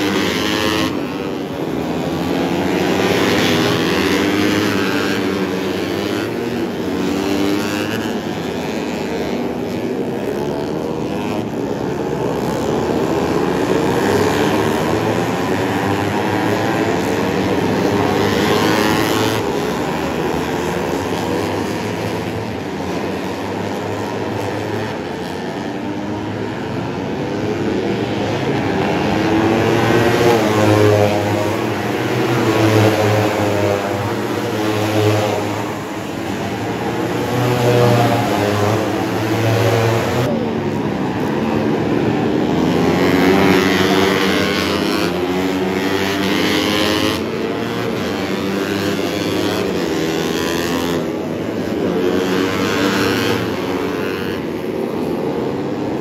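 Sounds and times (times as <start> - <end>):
racing motorcycles revving: 0.0 - 56.0.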